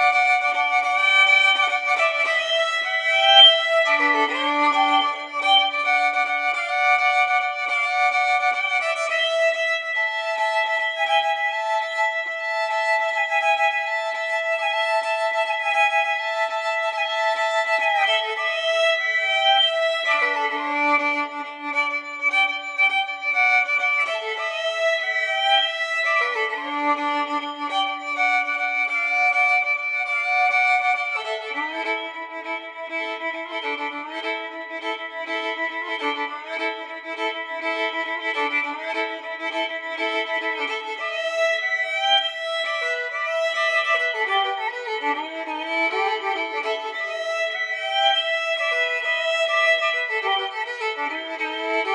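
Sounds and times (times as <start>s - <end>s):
violin-like melody: 0.0s - 51.9s.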